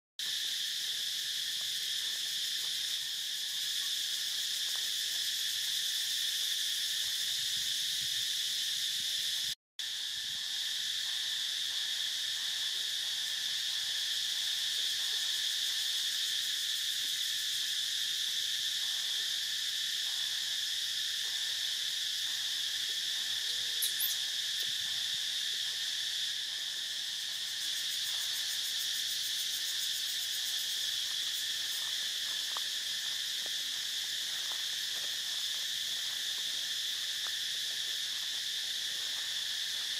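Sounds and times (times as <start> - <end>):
insect chorus buzzing: 0.2 - 39.9.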